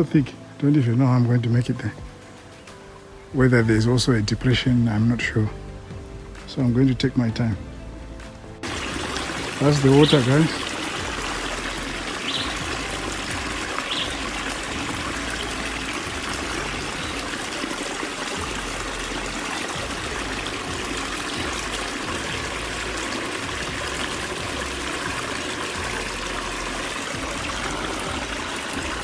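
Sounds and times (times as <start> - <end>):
stream trickling over rocks: 0.0 - 29.0.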